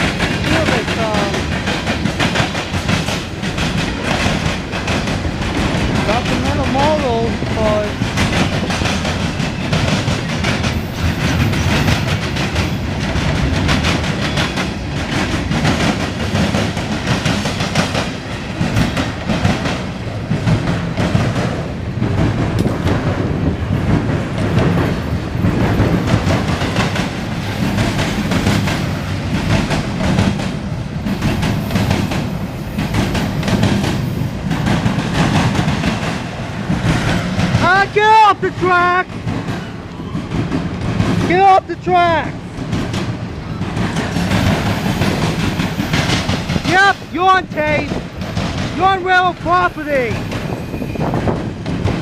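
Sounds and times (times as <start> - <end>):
freight train wheels clicking: 0.0 - 52.0.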